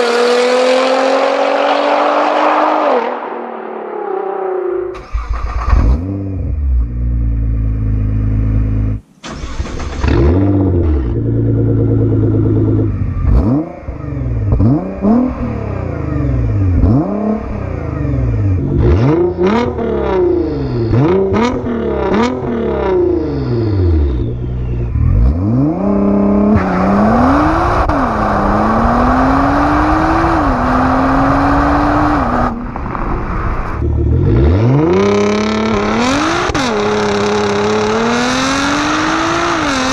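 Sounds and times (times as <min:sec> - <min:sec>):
car engine accelerating hard: 0:00.0 - 0:39.9
road noise: 0:00.0 - 0:39.9.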